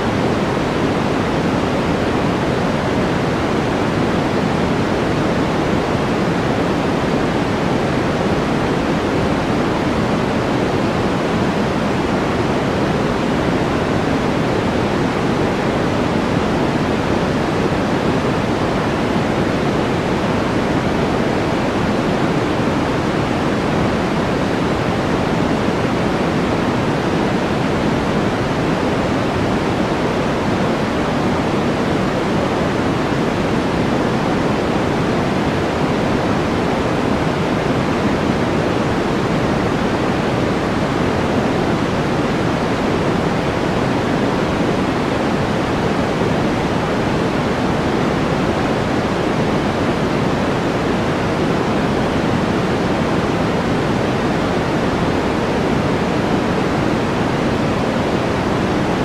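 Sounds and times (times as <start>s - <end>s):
white noise: 0.0s - 59.0s.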